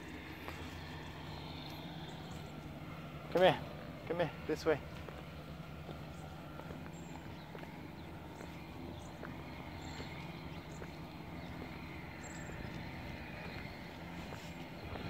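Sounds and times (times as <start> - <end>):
footsteps on concrete: 0.0 - 2.8, 4.8 - 15.0
low steady rumble: 0.0 - 15.0.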